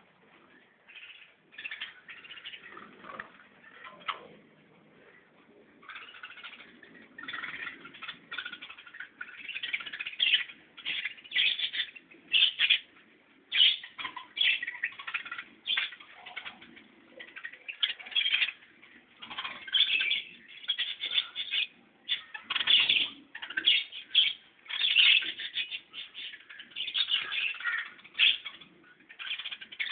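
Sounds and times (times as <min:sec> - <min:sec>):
bird calls: 0:00.0 - 0:29.9.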